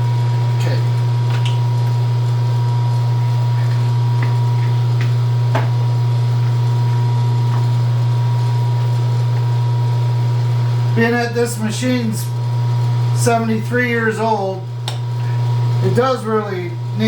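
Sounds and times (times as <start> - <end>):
machinery electrical hum: 0.0 - 17.0.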